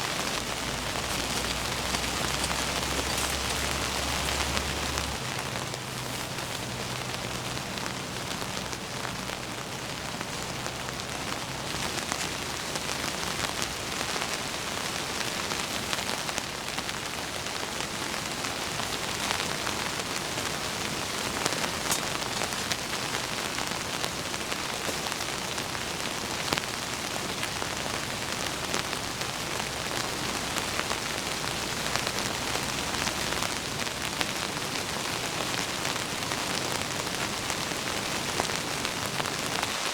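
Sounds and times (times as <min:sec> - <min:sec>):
close raindrops ticking: 0:00.0 - 0:39.9
heavy rain falling: 0:00.0 - 0:39.9.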